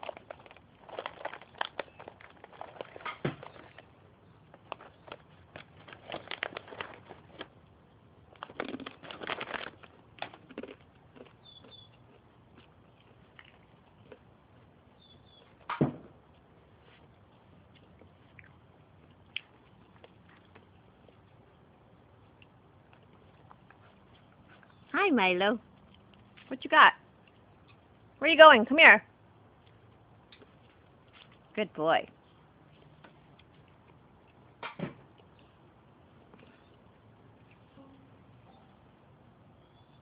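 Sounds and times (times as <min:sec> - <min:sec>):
crunchy chewing: 0:00.0 - 0:24.9, 0:25.6 - 0:26.5, 0:29.5 - 0:31.5, 0:32.2 - 0:37.7.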